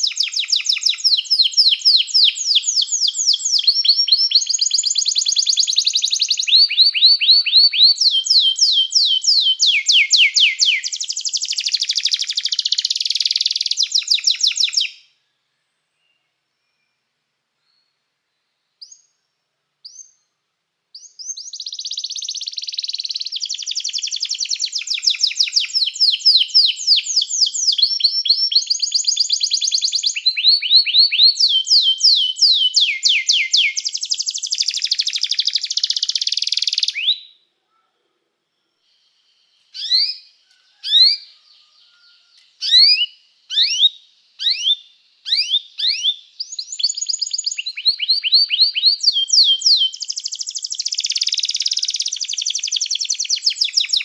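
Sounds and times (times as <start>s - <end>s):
canary sharp rising chirps: 0.0s - 15.0s, 21.0s - 37.2s, 39.7s - 54.0s
canary singing trilled song: 0.0s - 15.1s, 21.0s - 37.4s, 39.7s - 54.0s.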